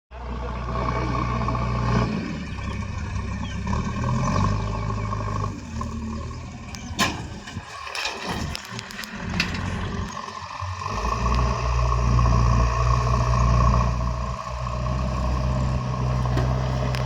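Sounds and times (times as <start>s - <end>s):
diesel machinery engines running: 0.1s - 17.0s.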